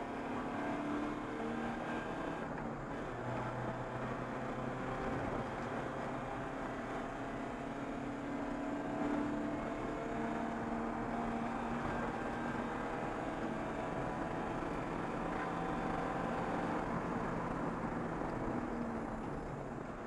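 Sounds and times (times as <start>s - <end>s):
race car engine accelerating: 0.0s - 20.0s
road and wind noise: 0.0s - 20.0s.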